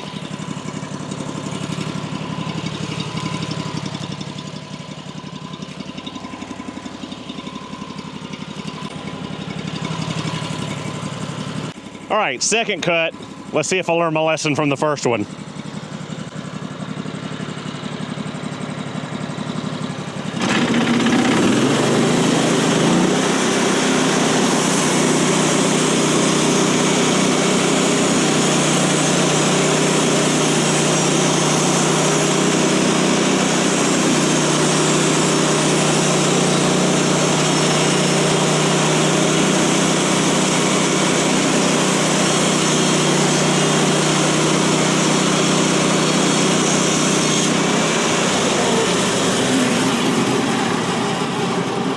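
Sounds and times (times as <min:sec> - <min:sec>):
sawmill gas engine revving: 0:00.0 - 0:51.9.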